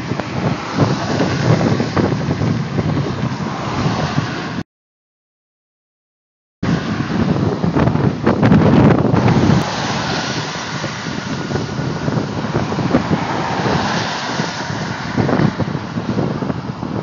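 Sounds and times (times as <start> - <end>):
wind rushing over microphone: 0.0 - 4.6, 6.6 - 17.0
highway car traffic: 0.0 - 4.7, 6.6 - 17.0.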